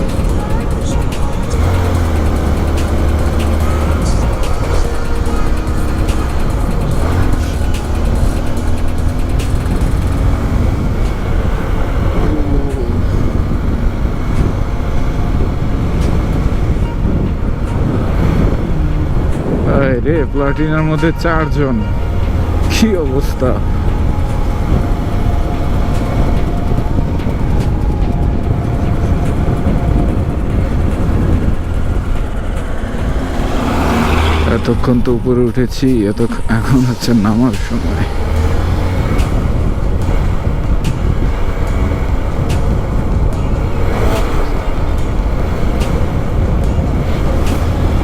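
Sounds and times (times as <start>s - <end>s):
motorcycle engine rumbling: 0.0s - 48.0s.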